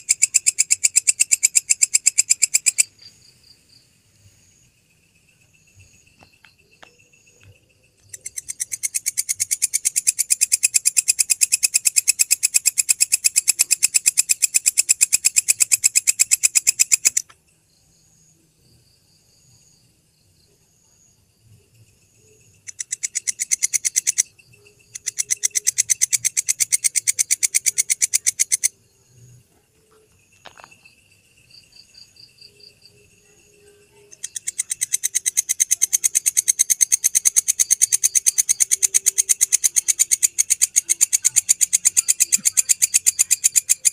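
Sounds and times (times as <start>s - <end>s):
grasshopper singing in pulse trains: 0.0s - 43.9s
insects trilling: 0.0s - 43.9s.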